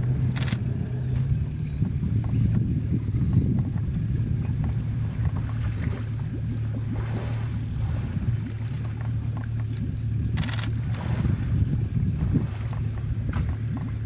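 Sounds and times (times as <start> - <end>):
boat motor idling: 0.0 - 14.0
water noises: 0.0 - 14.0.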